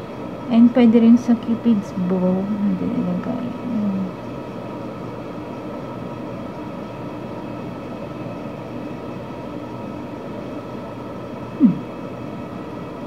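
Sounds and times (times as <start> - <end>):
steady mechanical drone: 0.0 - 13.0.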